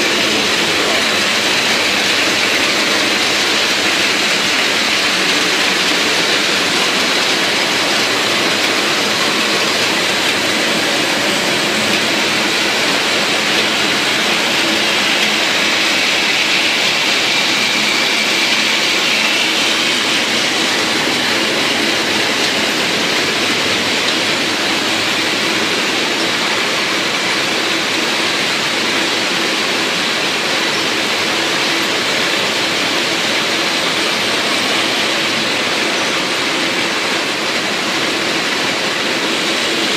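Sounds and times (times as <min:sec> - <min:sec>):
machine rushing and clattering: 0:00.0 - 0:39.9.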